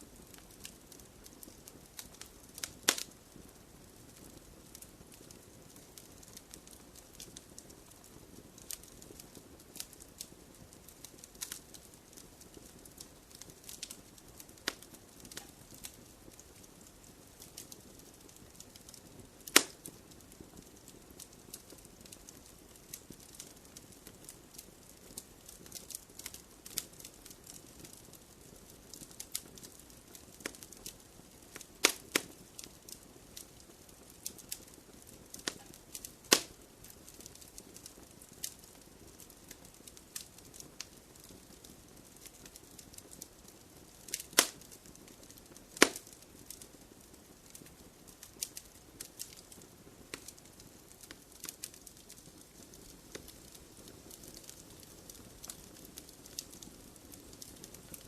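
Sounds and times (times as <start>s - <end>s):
fire popping and snapping: 0.0s - 58.0s
low steady hiss: 0.0s - 58.0s
wood fire crackling: 0.0s - 58.0s.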